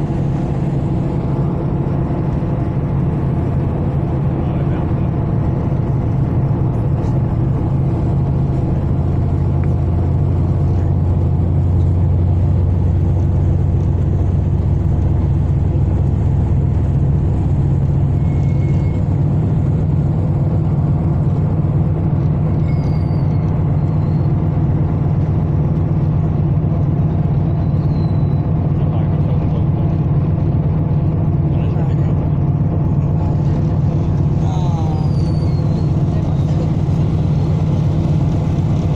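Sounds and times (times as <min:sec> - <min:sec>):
ferry engines droning: 0:00.0 - 0:38.9.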